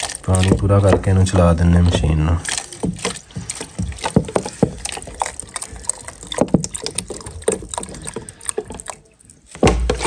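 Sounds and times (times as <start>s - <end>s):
water pouring into tray: 0.0s - 10.0s
water splashing: 0.0s - 10.0s.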